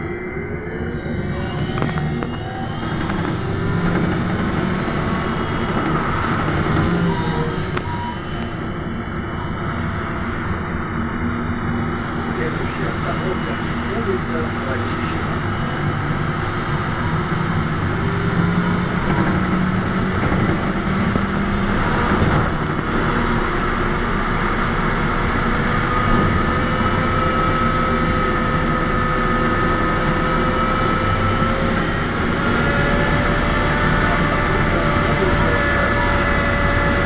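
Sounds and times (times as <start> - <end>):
electric traction drive whine: 0.0 - 37.0
road and running noise: 1.8 - 37.0.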